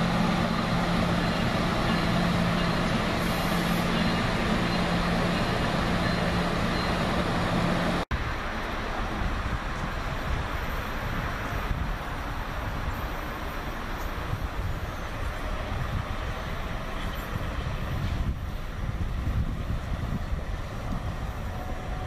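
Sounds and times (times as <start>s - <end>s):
train rumbling past on rails: 0.0s - 22.0s.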